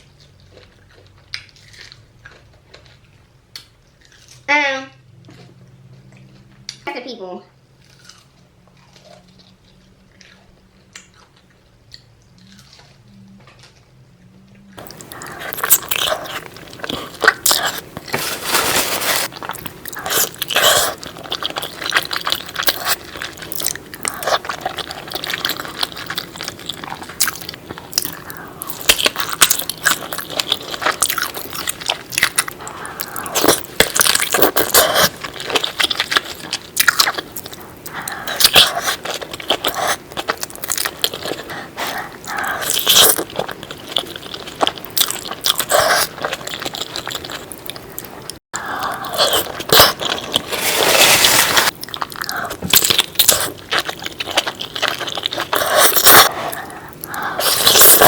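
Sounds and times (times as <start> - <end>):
crunchy biting and chewing: 0.0 - 4.5, 7.8 - 13.8, 14.8 - 58.0.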